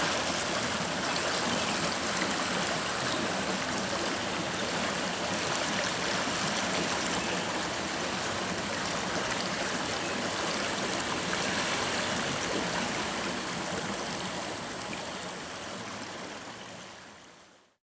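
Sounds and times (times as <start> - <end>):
river babbling over rocks: 0.0 - 17.2.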